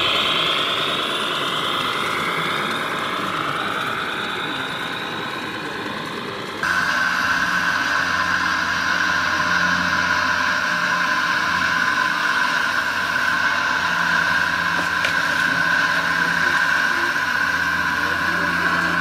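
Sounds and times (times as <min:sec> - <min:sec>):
high electric motor whine: 0:00.0 - 0:19.0
low engine-like hum: 0:00.0 - 0:19.0.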